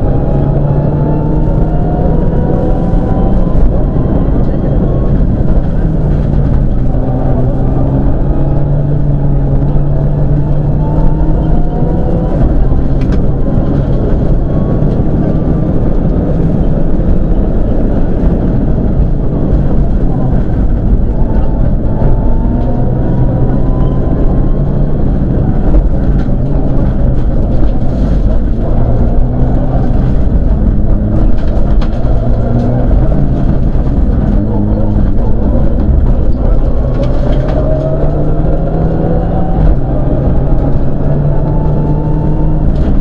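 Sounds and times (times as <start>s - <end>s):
car engine accelerating: 0.0s - 43.0s
road noise: 0.0s - 43.0s.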